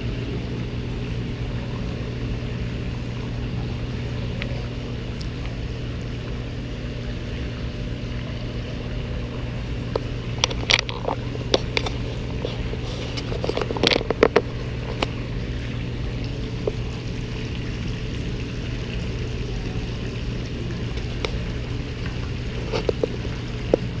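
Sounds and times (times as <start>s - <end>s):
running water: 0.0s - 24.0s
steady low hum: 0.0s - 24.0s.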